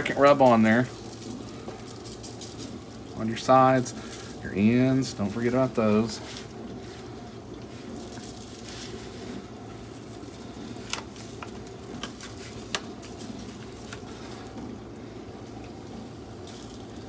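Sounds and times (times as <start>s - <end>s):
dry rub shaken from plastic shaker: 0.0s - 17.0s
steady low hum: 0.0s - 17.0s.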